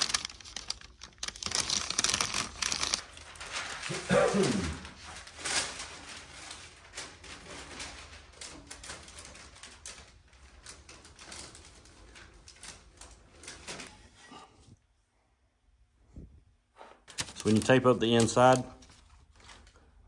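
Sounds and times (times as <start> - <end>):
paper rustling and crinkling: 0.0 - 14.5, 17.0 - 20.0.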